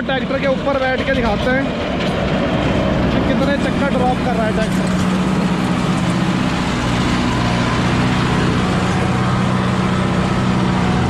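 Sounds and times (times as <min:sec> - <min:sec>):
diesel engine under heavy load: 0:00.0 - 0:11.0.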